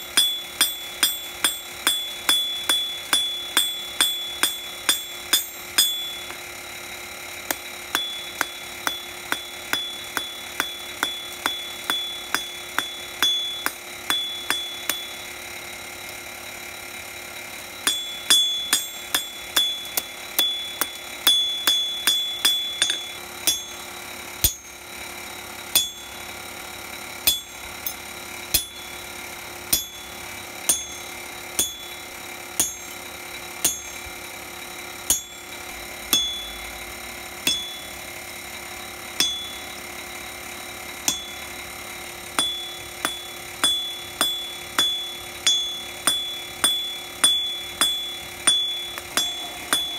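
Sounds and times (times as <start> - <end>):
hammer striking steel on anvil: 0.0 - 6.6, 7.4 - 15.5, 17.7 - 26.5, 27.2 - 38.1, 39.1 - 39.8, 41.0 - 41.7, 42.3 - 49.9.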